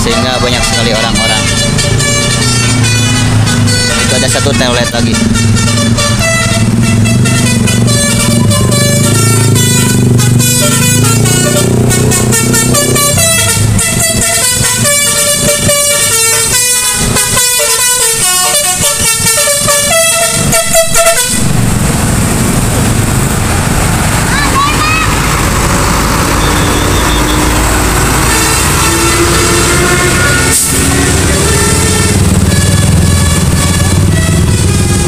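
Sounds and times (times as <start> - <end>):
musical air horn playing a tune: 0.0 - 21.6, 26.8 - 35.0.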